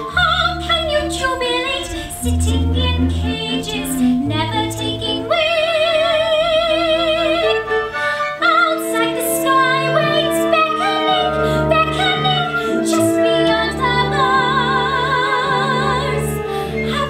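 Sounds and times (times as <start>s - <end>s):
soft instrumental accompaniment: 0.0s - 17.0s
soprano singing with vibrato: 0.0s - 17.0s.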